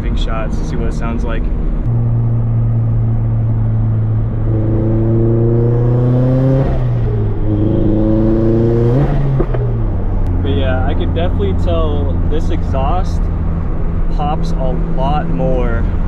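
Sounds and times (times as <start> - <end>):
car engine accelerating: 0.3 - 16.0.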